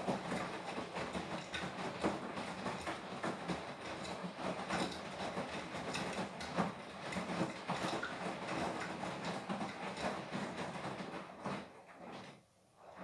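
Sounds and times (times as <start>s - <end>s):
knocks and swishes of tumbling load: 0.0s - 13.0s
washing machine motor hum: 0.0s - 13.0s.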